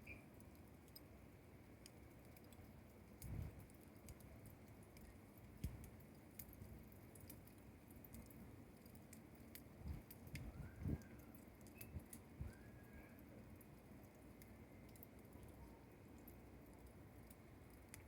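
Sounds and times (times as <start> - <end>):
bonfire crackling: 0.0 - 18.0.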